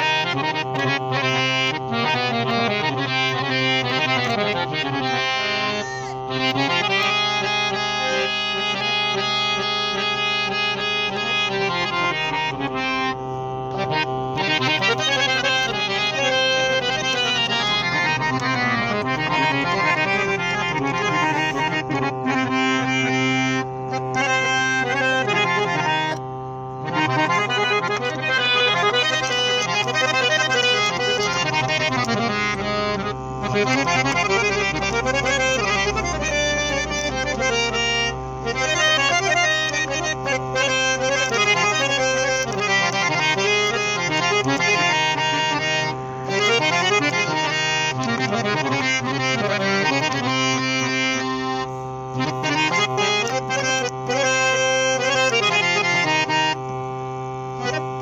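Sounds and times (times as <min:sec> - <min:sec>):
harmonium melody over drone: 0:00.0 - 0:58.0.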